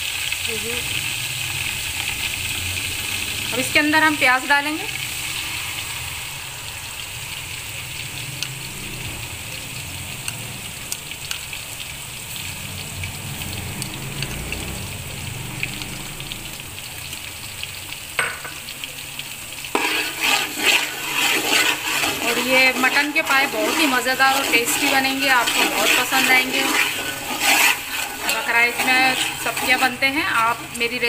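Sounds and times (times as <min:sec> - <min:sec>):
onion paste sizzling in oil: 0:00.0 - 0:31.0.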